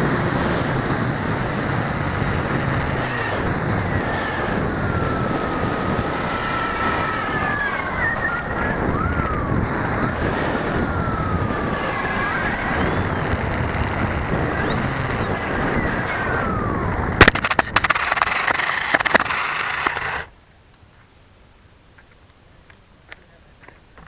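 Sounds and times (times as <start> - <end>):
electric motors and propellers buzzing: 0.0 - 20.3
wind rush: 0.0 - 20.3.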